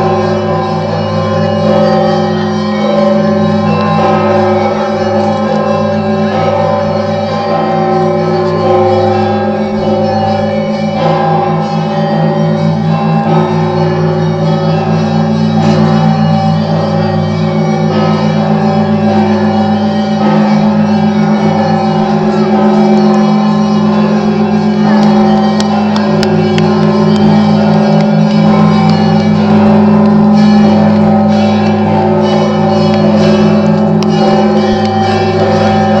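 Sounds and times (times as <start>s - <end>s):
large bell ringing: 0.0s - 36.0s.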